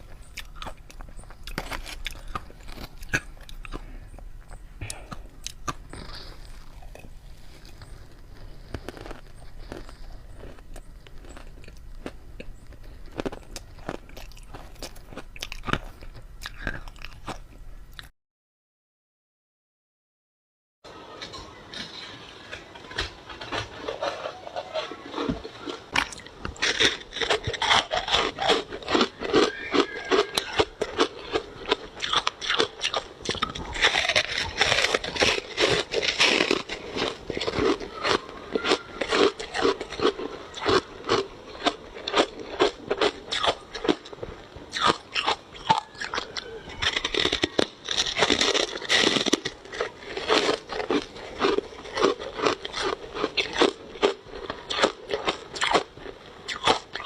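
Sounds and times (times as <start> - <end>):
ice crunching being chewed: 0.0 - 18.1, 21.2 - 57.0.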